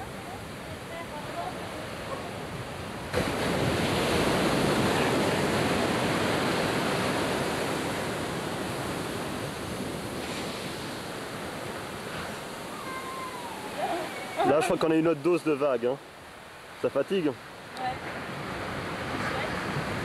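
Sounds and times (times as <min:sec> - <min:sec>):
wave breaking on beach: 0:00.0 - 0:15.8, 0:16.6 - 0:20.0.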